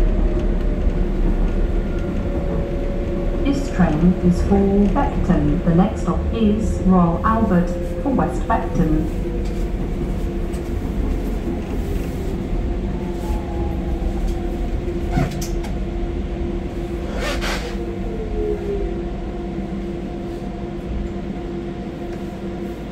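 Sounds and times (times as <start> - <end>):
train running rumble: 0.0 - 22.9.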